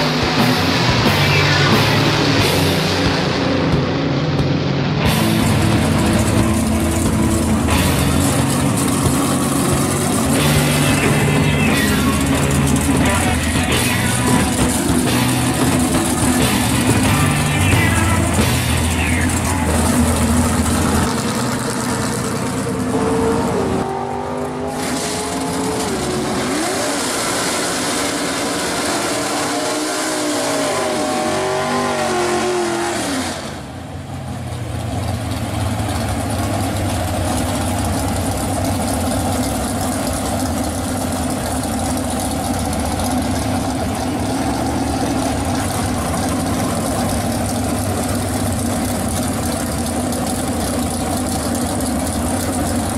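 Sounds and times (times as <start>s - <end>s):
car engines revving hard: 0.0s - 52.9s
engine holding high revs: 0.0s - 52.9s
roar of spinning tyres: 0.0s - 52.9s.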